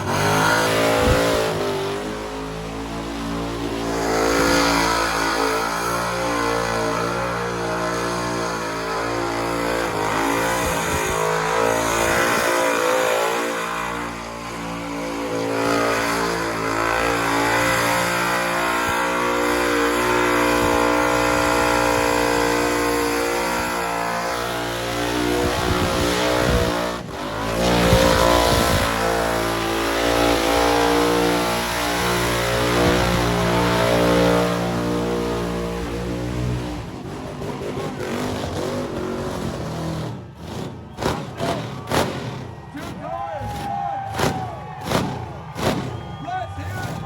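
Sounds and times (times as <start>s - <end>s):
car engine at high revs: 0.0s - 43.0s.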